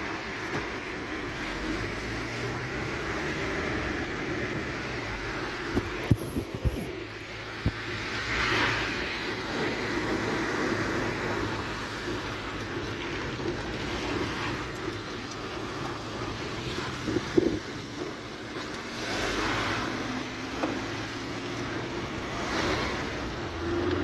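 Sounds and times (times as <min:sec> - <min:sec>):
rain on windscreen and roof: 0:00.0 - 0:24.0
tyres swishing through water: 0:00.0 - 0:24.0.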